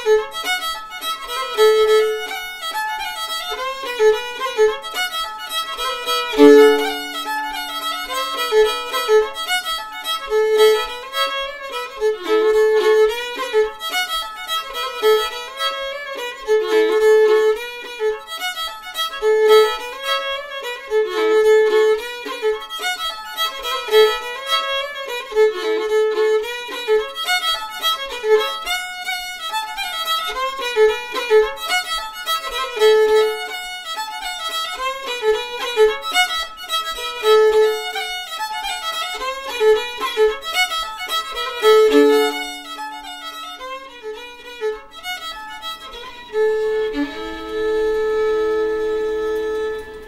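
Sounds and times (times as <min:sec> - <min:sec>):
fiddle playing: 0:00.0 - 0:50.0.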